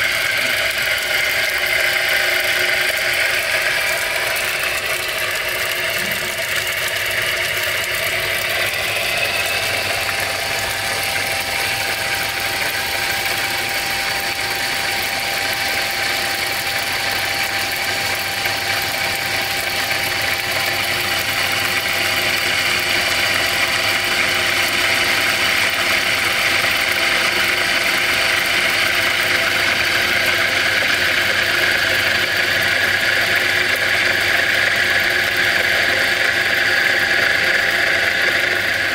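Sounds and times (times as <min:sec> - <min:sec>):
small motor whirring: 0:00.0 - 0:38.9
water jet spraying and splashing: 0:00.0 - 0:38.9.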